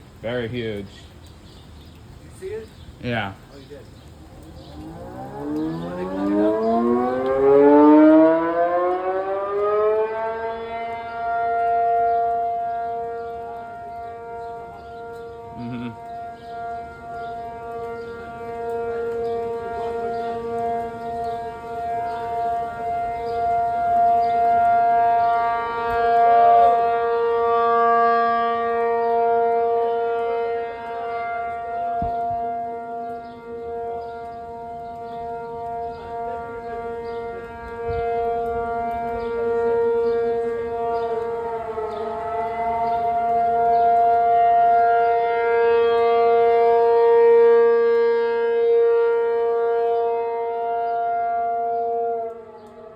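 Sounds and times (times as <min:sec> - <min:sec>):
warning siren steady tone: 0:04.1 - 0:52.9.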